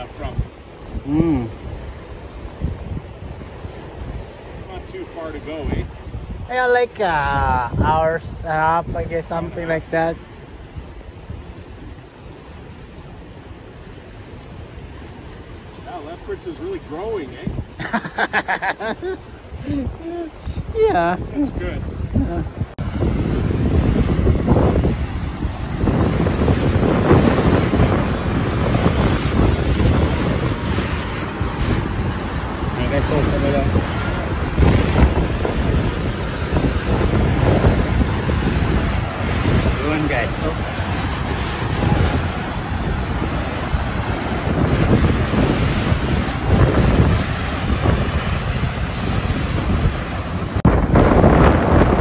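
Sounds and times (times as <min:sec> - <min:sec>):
wind buffeting microphone: 0:00.0 - 0:04.8, 0:05.4 - 0:12.5, 0:16.6 - 0:52.0
waterfall roaring: 0:00.0 - 0:52.0.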